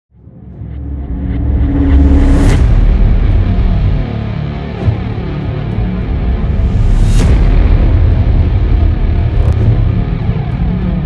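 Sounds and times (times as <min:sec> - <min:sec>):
deep steady rumble: 0:00.8 - 0:11.0.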